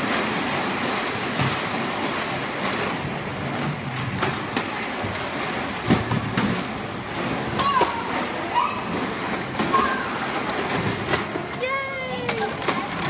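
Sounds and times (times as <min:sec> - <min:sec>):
plastic wheels rolling on concrete: 0:00.0 - 0:13.0.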